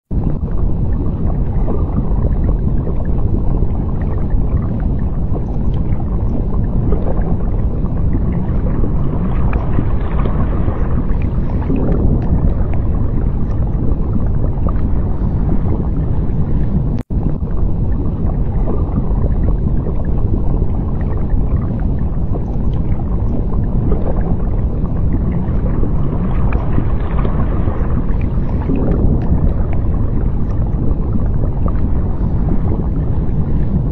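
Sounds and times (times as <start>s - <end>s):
deep underwater rumble: 0.0s - 33.9s.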